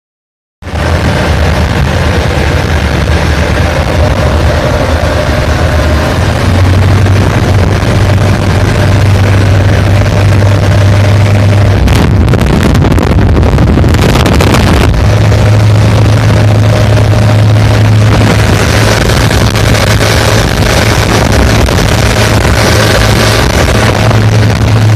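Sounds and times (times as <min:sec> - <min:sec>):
boat engine humming: 0:00.6 - 0:24.9
rushing wind or spray: 0:00.6 - 0:24.9.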